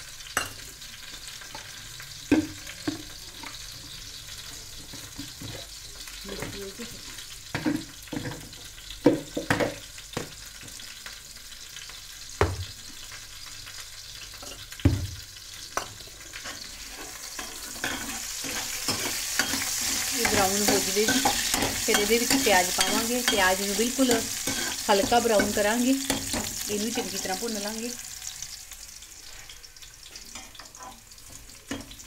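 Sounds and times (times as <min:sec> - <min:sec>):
garlic sizzling in oil: 0:00.0 - 0:32.0.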